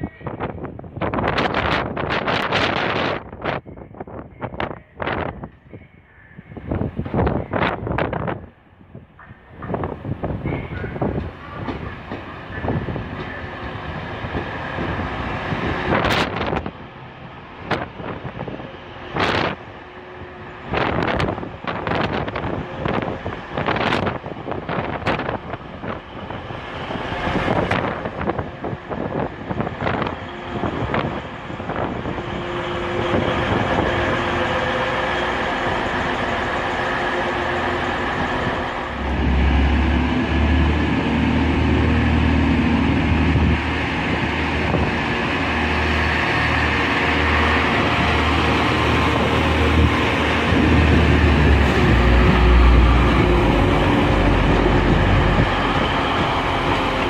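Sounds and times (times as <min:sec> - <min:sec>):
train drawing in: 0:00.0 - 0:57.0
wind buffeting microphone: 0:00.0 - 0:57.0
diesel engines humming: 0:11.0 - 0:57.0.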